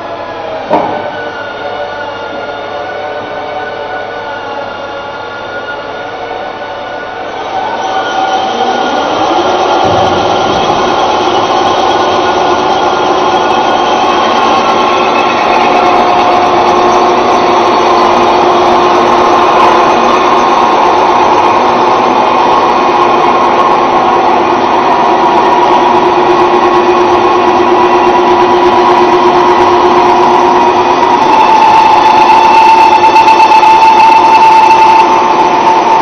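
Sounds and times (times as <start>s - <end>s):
drilling machine whine: 0.0s - 36.0s.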